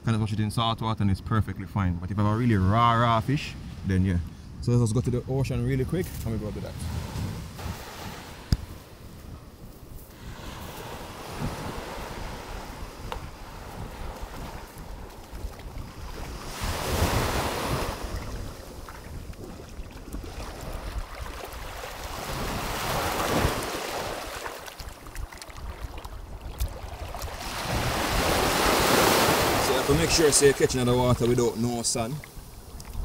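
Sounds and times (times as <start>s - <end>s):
wind buffeting microphone: 1.1s - 33.0s
small waves breaking on sand: 5.7s - 33.0s.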